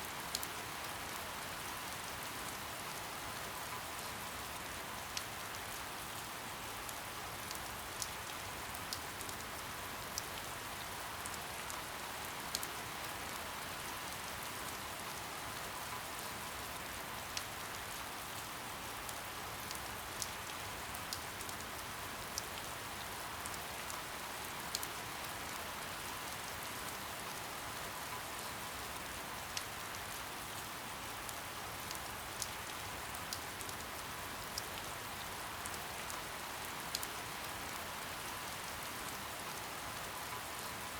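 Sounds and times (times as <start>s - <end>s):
soft rain hiss: 0.0s - 40.9s
raindrops ticking close by: 0.1s - 40.9s.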